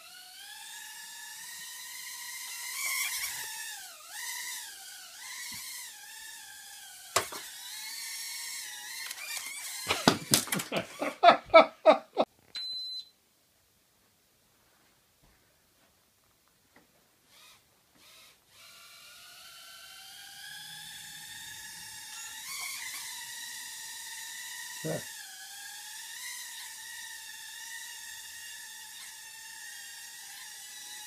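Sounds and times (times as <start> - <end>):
quadcopter propeller motors whining: 0.0 - 11.3, 17.3 - 31.0.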